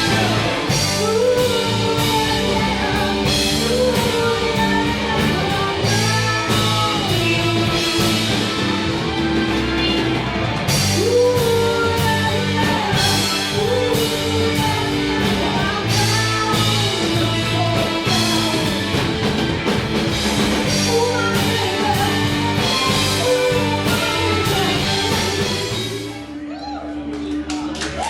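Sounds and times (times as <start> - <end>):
rock music with guitar and drums: 0.0 - 26.4.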